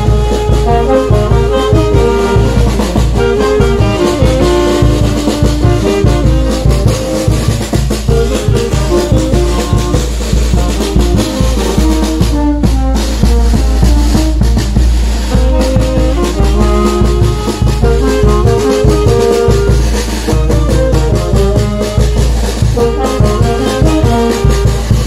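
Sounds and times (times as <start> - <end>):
bass drum beat: 0.0 - 25.0
brass band playing: 0.0 - 25.0
snare drum beat: 0.0 - 25.0
trumpets playing melody: 0.0 - 25.0.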